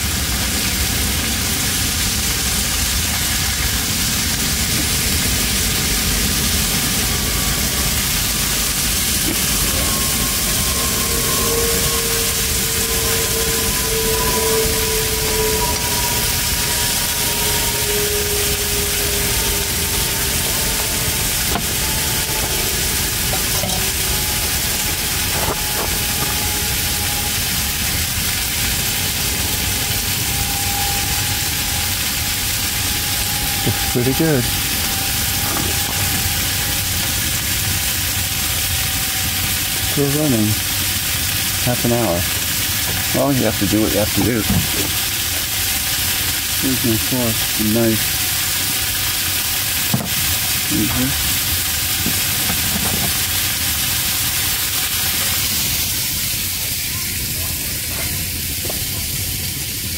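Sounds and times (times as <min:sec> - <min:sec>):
fish sizzling in a pan: 0:00.0 - 0:59.9.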